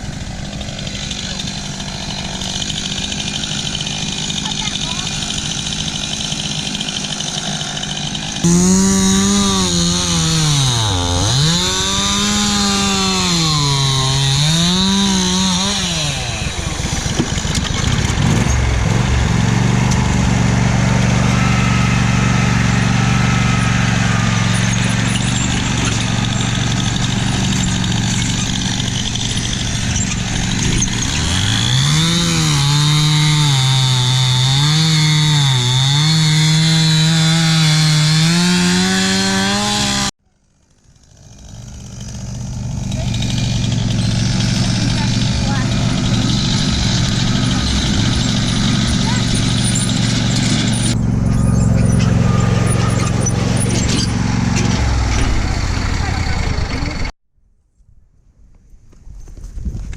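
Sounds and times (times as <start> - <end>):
chainsaw engine revving: 0.0 - 57.1.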